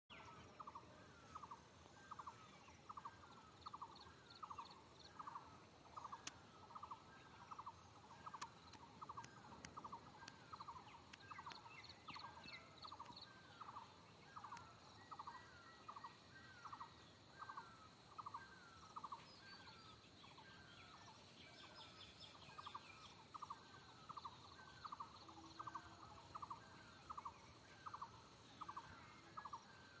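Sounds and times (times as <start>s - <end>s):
faint rhythmic animal calls: 0.1s - 30.0s.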